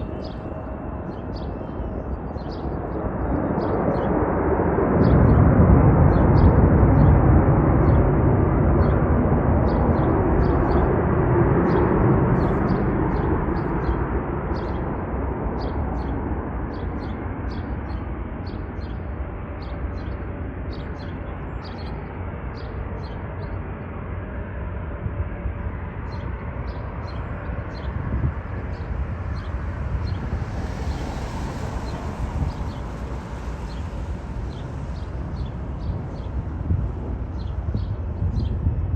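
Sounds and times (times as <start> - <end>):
jet airliner rumble: 0.0 - 38.9.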